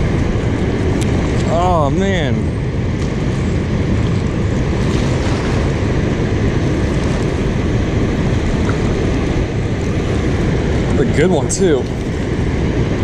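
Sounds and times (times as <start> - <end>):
water rushing through spillway: 0.0 - 13.0
wind buffeting microphone: 0.0 - 13.0.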